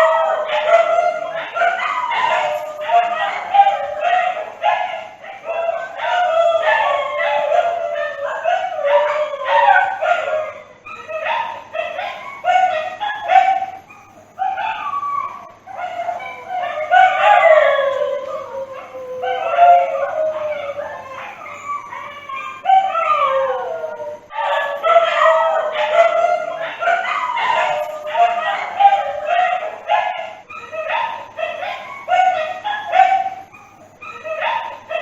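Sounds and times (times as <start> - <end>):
dog howling and yelping: 0.0 - 35.0.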